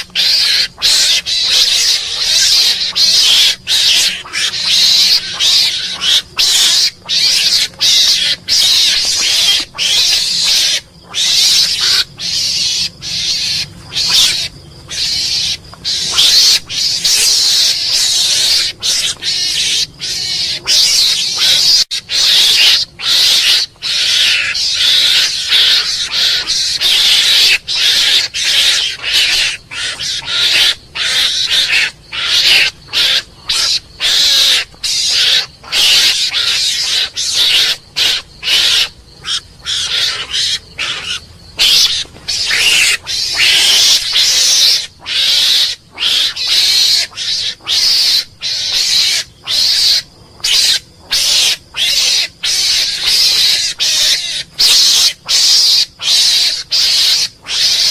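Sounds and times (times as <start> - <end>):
mongoose calling: 0.0 - 57.9.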